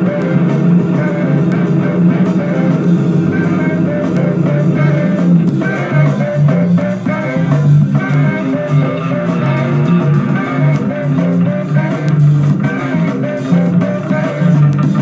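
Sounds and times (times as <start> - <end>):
blues rock through loudspeaker: 0.0 - 15.0.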